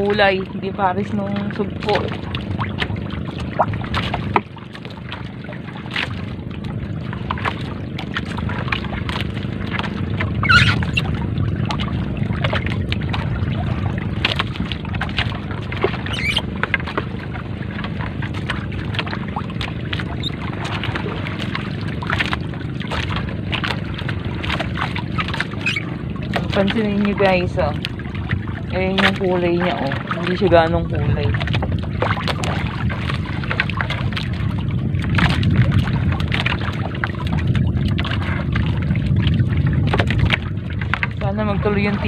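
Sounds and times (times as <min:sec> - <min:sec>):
boat engine drone: 0:00.0 - 0:42.0
net pulled over boat edge: 0:00.0 - 0:42.0
water sloshing: 0:00.0 - 0:42.0.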